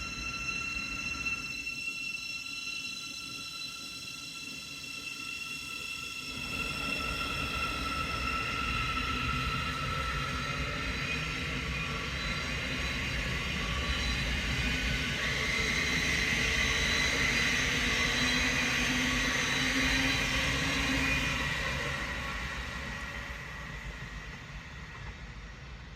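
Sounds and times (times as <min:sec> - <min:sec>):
train wheels rumbling on rail: 0:04.5 - 0:25.9.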